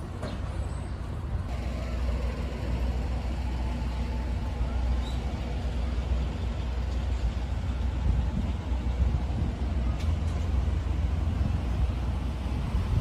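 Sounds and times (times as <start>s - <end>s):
low rumble of city ambience: 0.0s - 13.0s.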